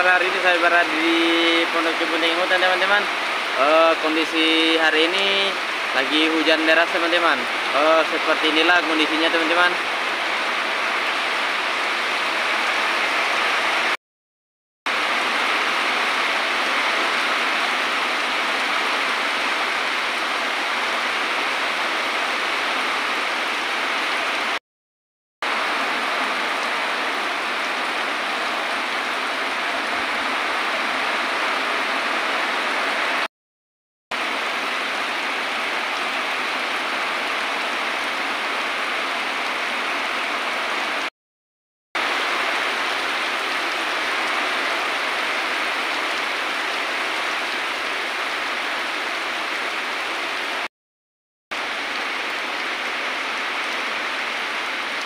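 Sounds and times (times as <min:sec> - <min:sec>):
heavy rain pouring: 0:00.0 - 0:14.0, 0:14.9 - 0:24.6, 0:25.4 - 0:33.3, 0:34.1 - 0:41.1, 0:42.0 - 0:50.7, 0:51.5 - 0:55.0.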